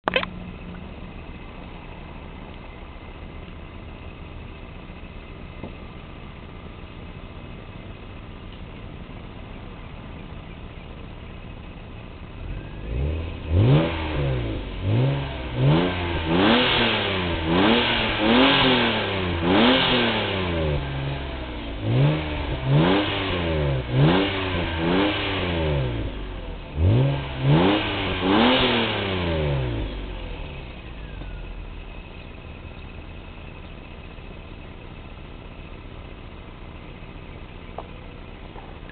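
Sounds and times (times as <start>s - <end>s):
car engine revving: 0.1s - 38.9s.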